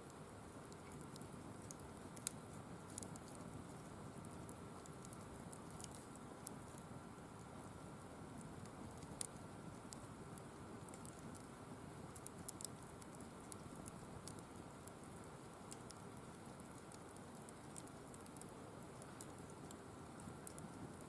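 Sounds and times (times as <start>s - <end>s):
faint steady rush: 0.0s - 21.0s
firewood crackling and popping: 0.1s - 21.0s.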